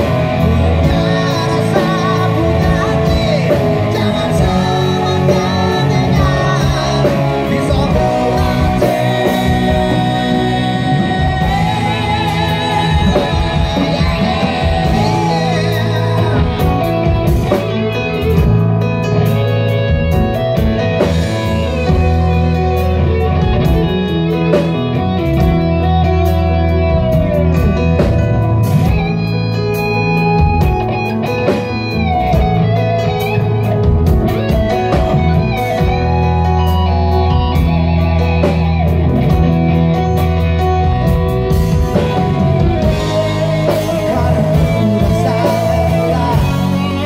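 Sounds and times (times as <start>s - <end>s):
bass guitar: 0.0s - 47.0s
drums: 0.0s - 47.0s
electric guitar: 0.0s - 47.0s.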